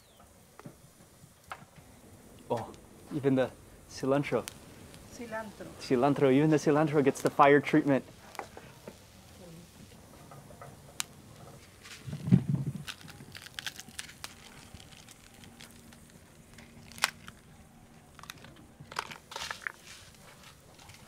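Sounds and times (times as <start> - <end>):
herbs crackling on hot metal: 0.0 - 21.0.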